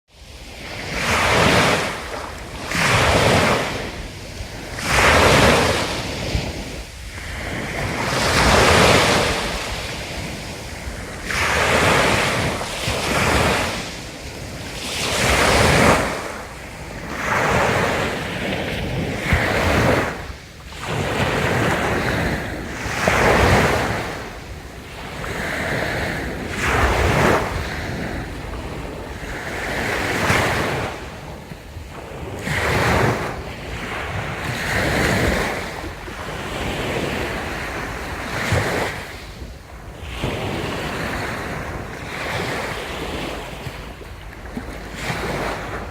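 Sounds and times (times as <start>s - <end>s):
sea waves breaking on a beach: 0.1s - 45.9s.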